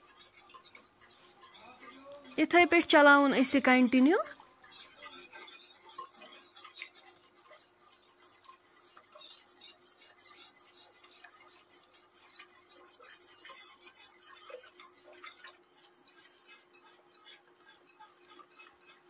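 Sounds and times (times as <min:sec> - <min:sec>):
whisk scraping metal pot: 0:00.0 - 0:19.0.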